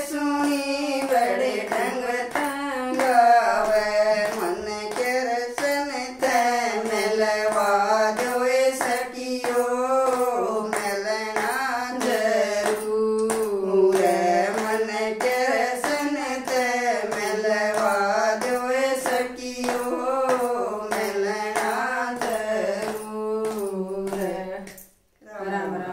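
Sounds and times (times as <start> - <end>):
hand claps: 0.0 - 25.0
women singing devotional song: 0.0 - 25.9.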